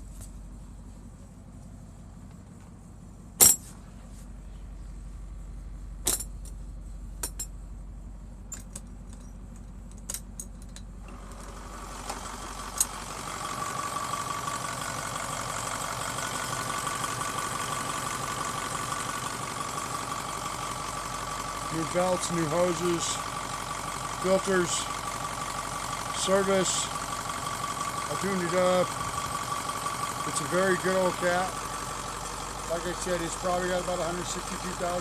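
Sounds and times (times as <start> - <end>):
diesel engine idling: 0.0 - 35.0
steady whine: 0.0 - 35.0.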